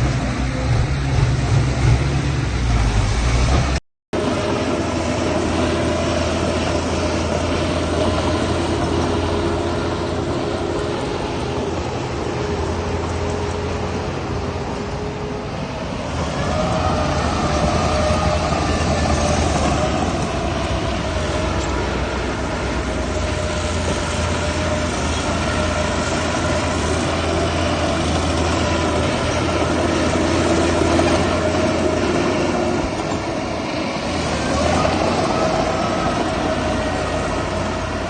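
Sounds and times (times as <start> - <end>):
deep diesel engine rumble: 0.0 - 38.0.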